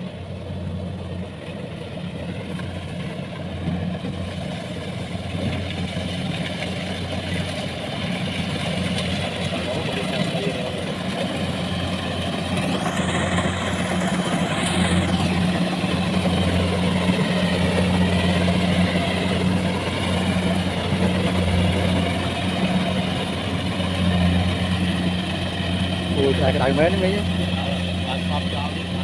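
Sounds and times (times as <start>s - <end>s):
harvester engine running: 0.0s - 29.0s.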